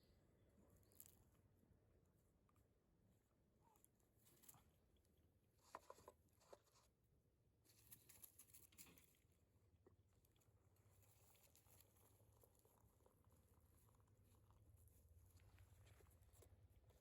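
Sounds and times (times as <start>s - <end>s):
soft rustle: 3.3s - 17.0s.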